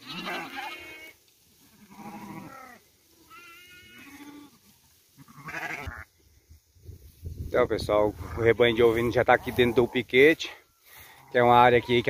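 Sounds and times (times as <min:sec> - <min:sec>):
sheep bleating: 0:00.0 - 0:06.1, 0:08.2 - 0:12.0.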